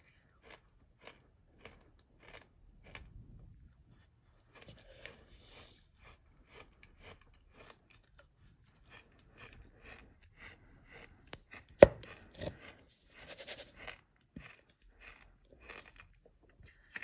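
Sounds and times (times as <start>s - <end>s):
crunching of sand being chewed: 0.0s - 3.3s, 4.0s - 17.0s.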